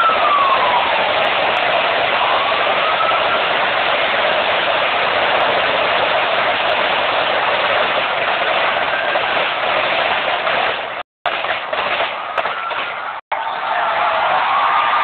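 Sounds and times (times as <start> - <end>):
fireworks bursts and crackle: 0.0 - 13.6.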